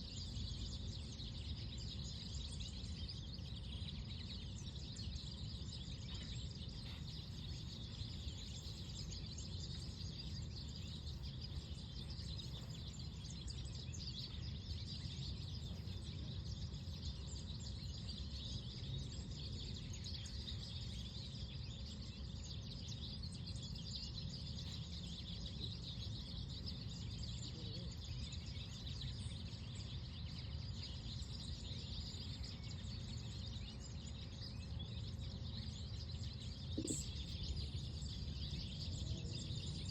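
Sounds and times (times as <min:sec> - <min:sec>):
birds chirping and twittering: 0:00.0 - 0:39.9
low rumble of wind or traffic: 0:00.5 - 0:39.9.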